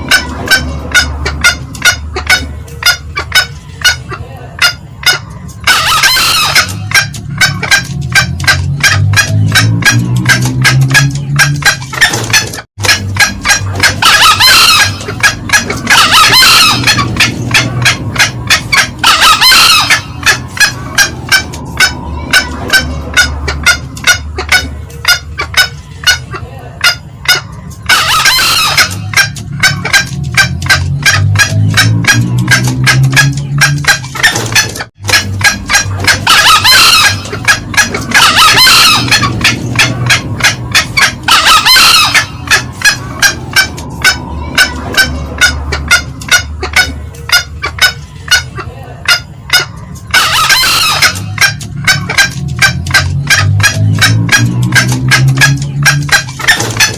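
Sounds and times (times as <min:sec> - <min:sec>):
junglefowl clucking: 0:00.0 - 0:56.9
junglefowl harsh call: 0:00.0 - 0:56.9.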